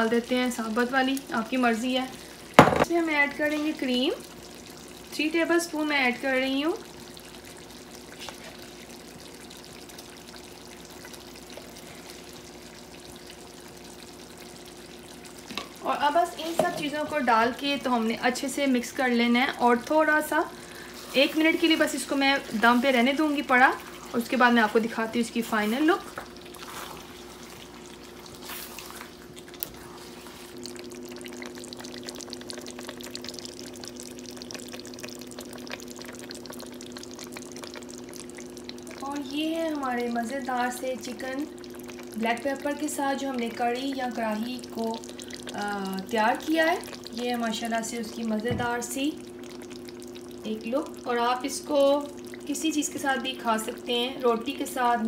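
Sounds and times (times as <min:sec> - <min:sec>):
curry sizzling in a wok: 0:00.0 - 0:55.0
faint steady hum: 0:00.0 - 0:55.0
gravy bubbling and popping: 0:00.0 - 0:55.0.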